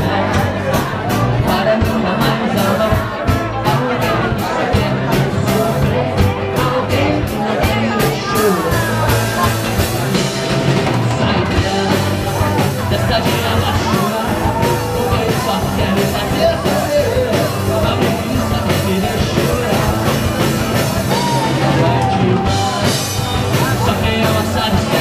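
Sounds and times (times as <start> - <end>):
drums keeping a steady beat: 0.0 - 25.0
electric guitars: 0.0 - 25.0.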